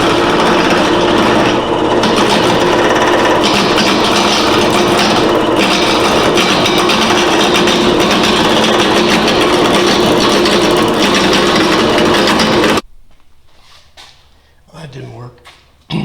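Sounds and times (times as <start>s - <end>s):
tool rasping on wood: 0.0s - 12.8s
wood lathe motor hum: 0.0s - 12.8s.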